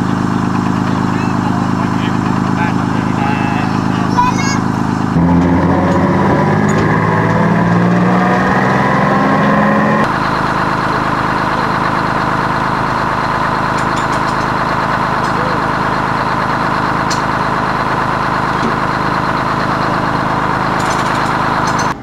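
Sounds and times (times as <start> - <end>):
mechanical drone: 0.0 - 22.0
tram motor hum: 0.0 - 22.0.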